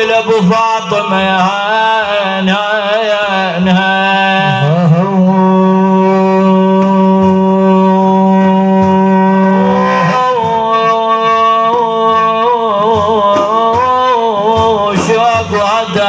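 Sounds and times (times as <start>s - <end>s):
devotional singing: 0.0s - 16.0s.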